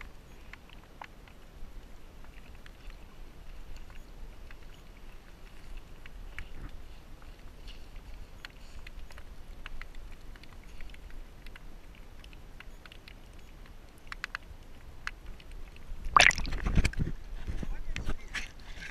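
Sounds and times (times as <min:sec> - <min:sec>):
light clicks and taps: 0:00.0 - 0:15.9.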